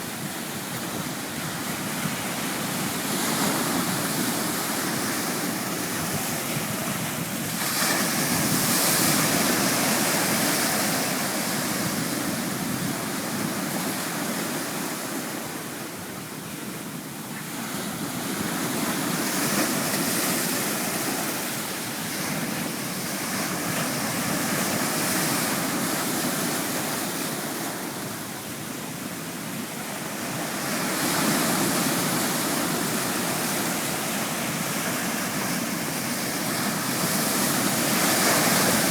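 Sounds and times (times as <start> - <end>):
sea waves washing onto shore: 0.0 - 38.9.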